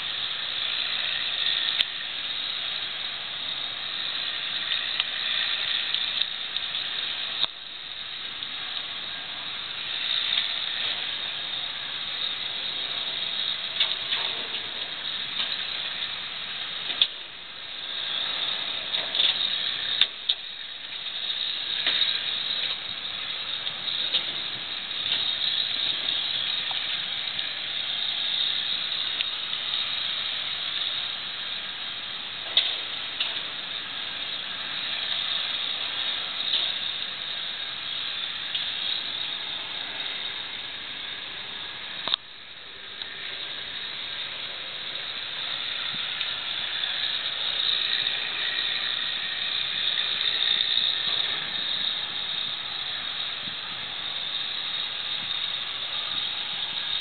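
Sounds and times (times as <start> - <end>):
burning brush pile hissing: 0.0 - 57.0
fire crackling: 0.0 - 57.0.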